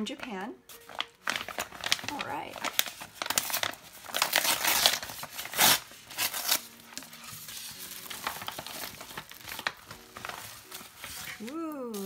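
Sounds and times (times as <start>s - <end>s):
packaging crinkling: 0.7s - 12.0s.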